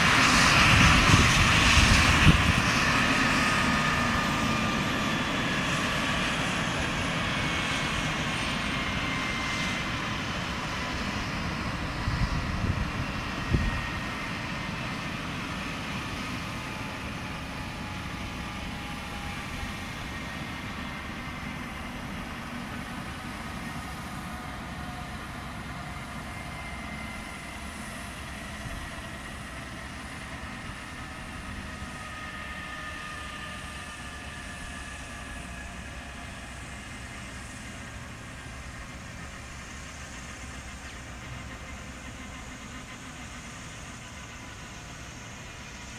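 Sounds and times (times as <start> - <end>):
helicopter turbine winding down: 0.0 - 45.9.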